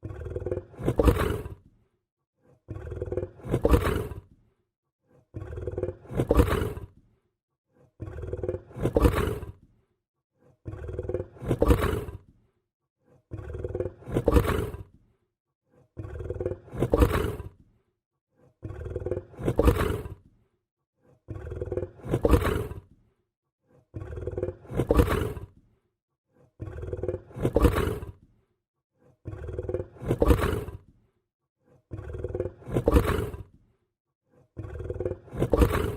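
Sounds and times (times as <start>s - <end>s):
lion growling: 0.0s - 7.2s, 7.8s - 9.8s, 10.4s - 12.5s, 13.1s - 15.1s, 15.7s - 17.8s, 18.4s - 23.1s, 23.7s - 28.4s, 29.0s - 33.7s, 34.4s - 35.9s.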